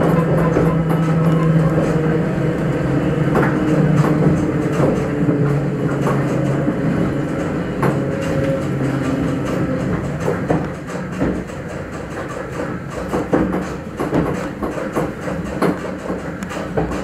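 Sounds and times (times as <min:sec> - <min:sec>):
electric train humming: 0:00.0 - 0:17.0
wheels clacking on rail joints: 0:00.0 - 0:17.0.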